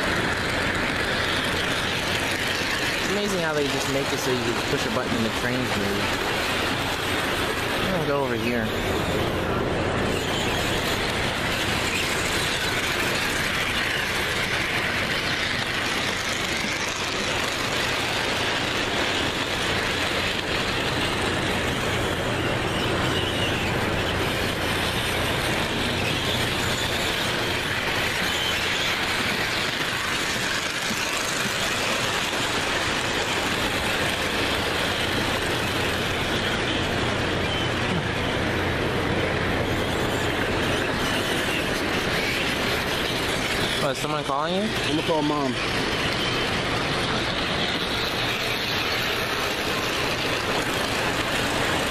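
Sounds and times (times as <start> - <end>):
model train rattling on track: 0.0 - 51.9.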